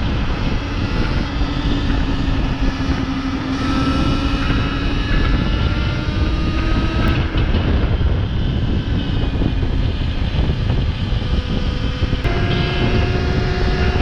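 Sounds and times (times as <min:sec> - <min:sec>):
electric motor whine: 0:00.0 - 0:14.0
wind noise on microphone: 0:00.0 - 0:14.0.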